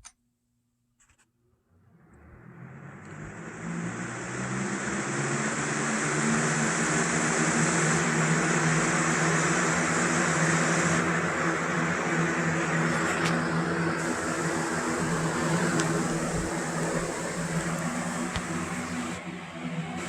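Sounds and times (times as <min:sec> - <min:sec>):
box fan spinning: 0:01.7 - 0:20.0.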